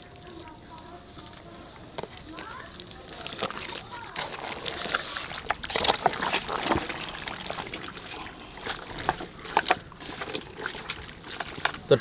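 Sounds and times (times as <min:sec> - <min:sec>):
wet squelching of kneaded meat: 0:00.0 - 0:12.0.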